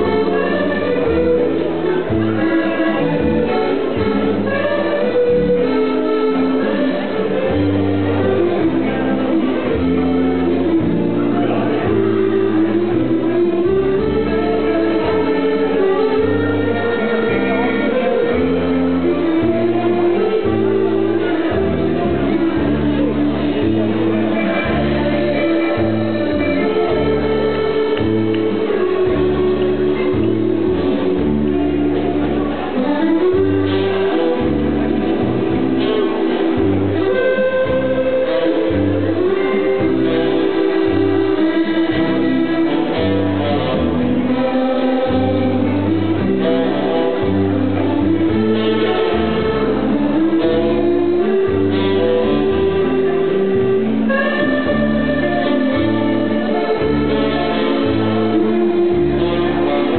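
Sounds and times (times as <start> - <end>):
electric guitar: 0.0 - 59.9.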